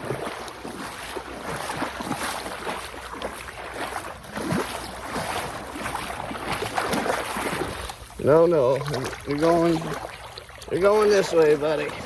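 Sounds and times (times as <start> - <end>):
small splashes and knocks: 0.0 - 12.0
water washing at shoreline: 0.0 - 12.0.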